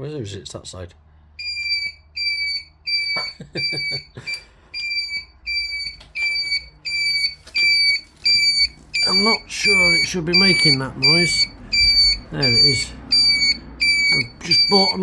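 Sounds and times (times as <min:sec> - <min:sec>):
high-pitched flasher beeps: 0:01.4 - 0:15.0.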